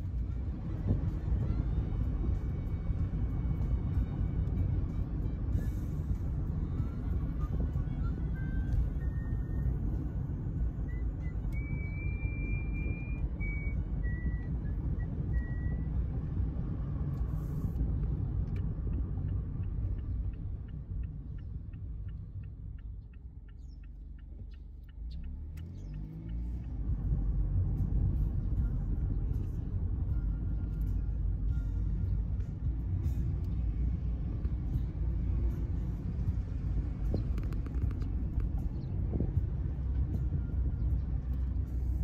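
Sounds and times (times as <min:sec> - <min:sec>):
car engine and road noise: 0:00.0 - 0:42.0
turn indicator ticking: 0:00.0 - 0:42.0.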